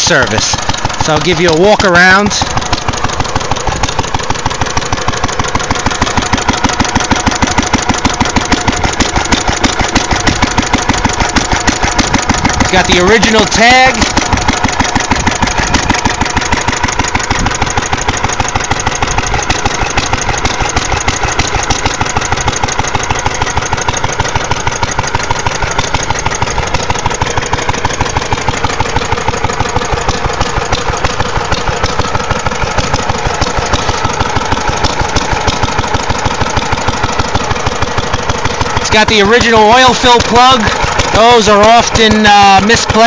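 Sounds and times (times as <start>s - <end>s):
stationary engine idling: 0.0s - 43.0s.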